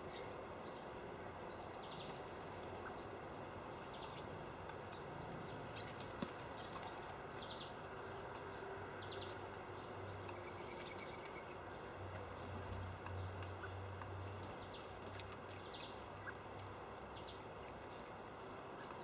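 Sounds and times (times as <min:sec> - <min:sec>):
small birds chirping: 0:01.5 - 0:19.0.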